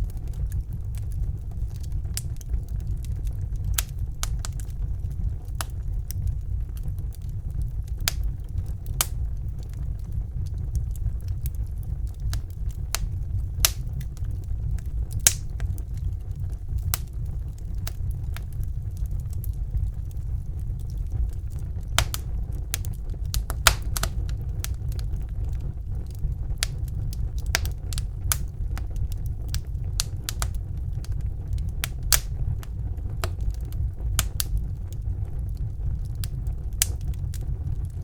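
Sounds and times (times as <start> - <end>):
fire crackling and popping: 0.0 - 38.0
low rumble of flames: 0.0 - 38.0.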